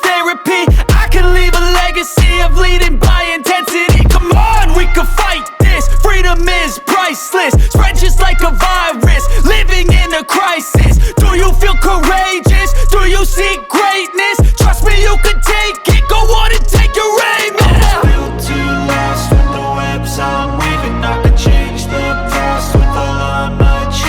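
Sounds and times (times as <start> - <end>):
hip hop music with deep bass: 0.0 - 24.0.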